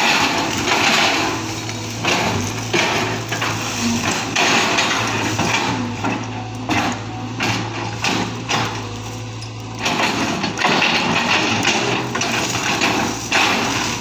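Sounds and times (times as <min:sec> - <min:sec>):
excavator diesel engine running: 0:00.0 - 0:14.0
rough clatter and scraping: 0:00.0 - 0:14.0.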